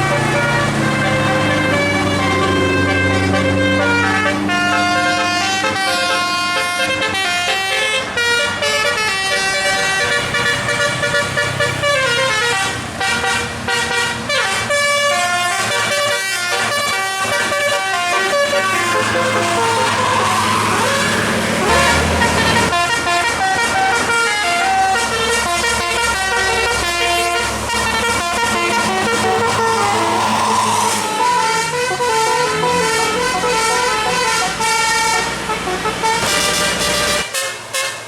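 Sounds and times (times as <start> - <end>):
bus engine running: 0.0 - 38.0
musical air horn melody: 0.0 - 38.0.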